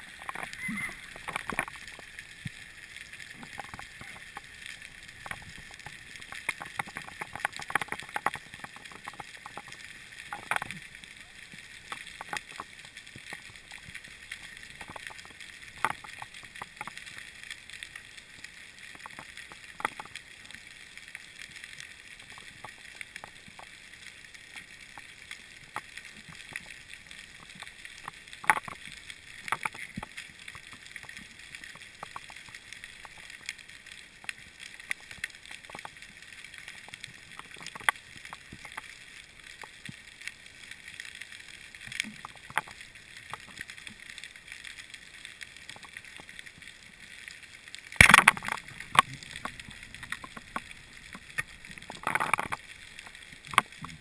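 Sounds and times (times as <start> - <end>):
sharp clicks and crackles: 0.0 - 54.0.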